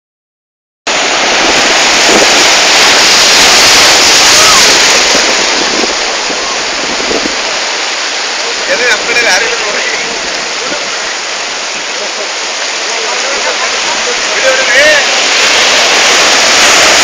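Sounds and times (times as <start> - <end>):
waves breaking over rocks: 0.9 - 17.0.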